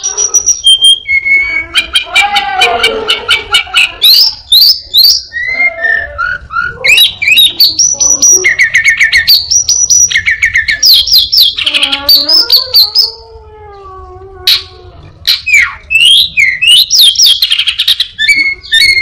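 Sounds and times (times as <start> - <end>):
bird chirping and whistling: 0.0 - 2.3, 3.3 - 13.2, 14.5 - 19.0.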